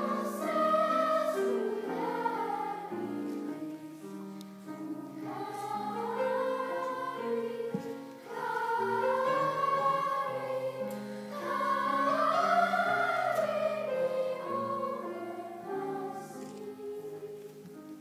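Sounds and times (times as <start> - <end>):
young choir singing: 0.0 - 18.0.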